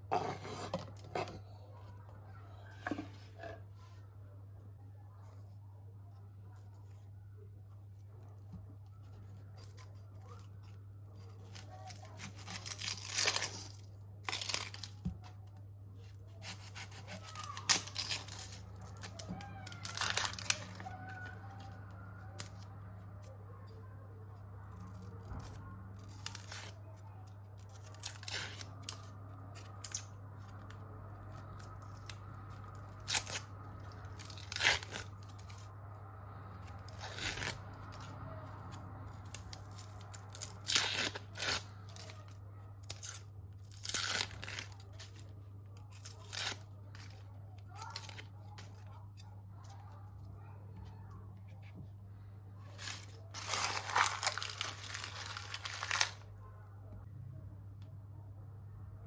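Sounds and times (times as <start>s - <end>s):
scraping and tearing noises: 0.0s - 4.1s, 5.2s - 56.4s.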